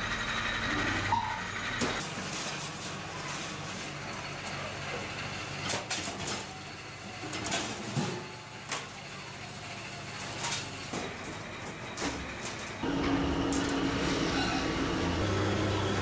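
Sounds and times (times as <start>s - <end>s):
workshop machinery hum: 0.0s - 16.0s.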